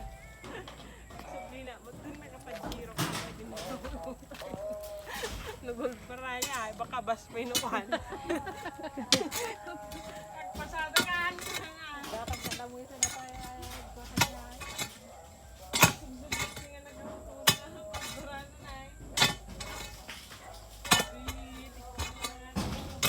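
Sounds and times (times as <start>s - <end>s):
faint voices: 0.0s - 23.0s.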